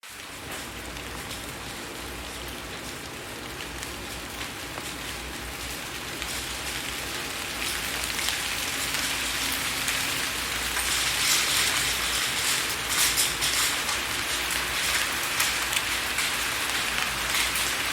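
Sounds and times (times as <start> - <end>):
rain on a window: 0.0 - 17.9
raindrops ticking on glass: 0.1 - 17.9.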